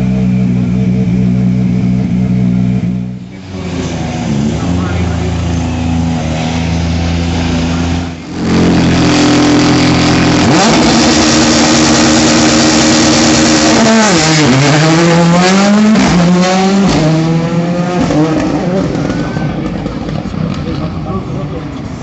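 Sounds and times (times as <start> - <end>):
engine crackles: 0.0 - 22.0
rally car engine revving: 0.0 - 22.0.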